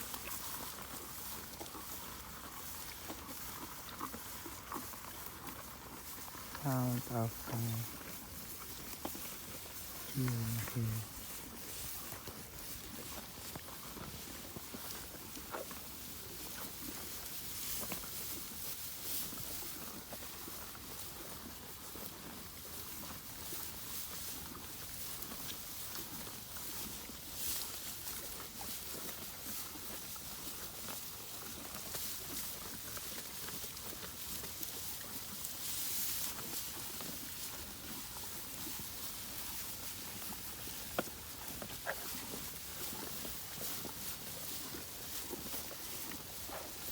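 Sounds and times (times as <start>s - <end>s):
cattle chewing hay: 0.0s - 46.9s.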